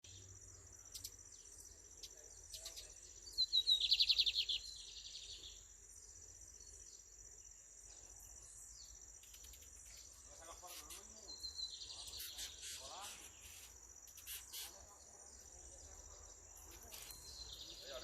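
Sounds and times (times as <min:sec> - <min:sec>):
bird song with rapid trill: 0:00.0 - 0:18.0.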